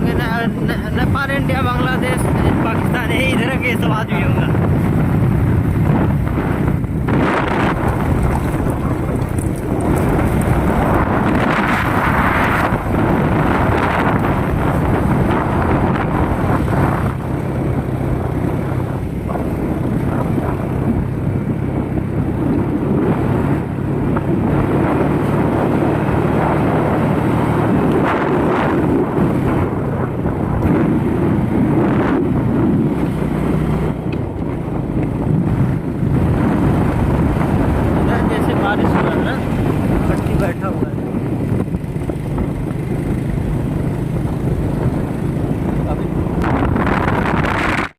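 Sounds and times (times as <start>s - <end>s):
vehicle hum: 0.0s - 47.9s
wind buffeting microphone: 0.0s - 47.9s.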